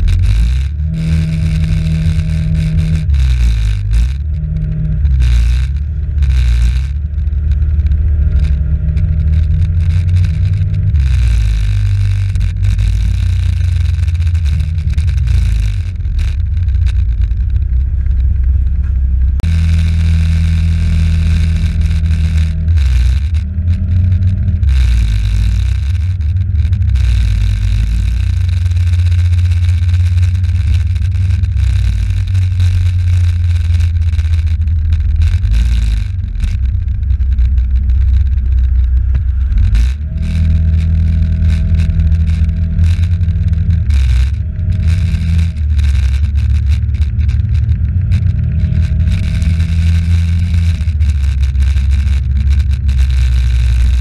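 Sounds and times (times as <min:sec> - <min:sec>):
moped engine running: 0:00.0 - 0:54.0
wind rumble on microphone: 0:00.0 - 0:54.0.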